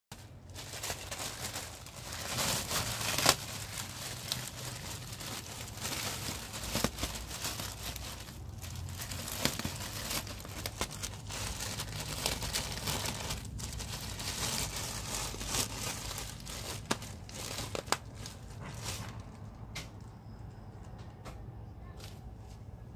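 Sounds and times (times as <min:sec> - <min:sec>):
plastic bag crinkling: 0:00.1 - 0:19.4.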